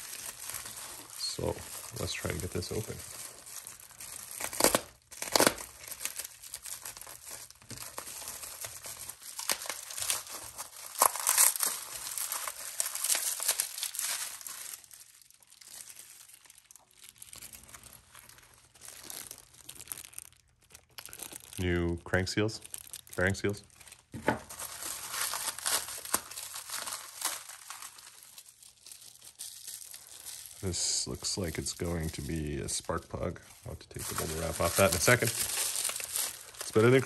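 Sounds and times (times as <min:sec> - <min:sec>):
plastic and bubble wrap crinkling: 0:00.0 - 0:37.0.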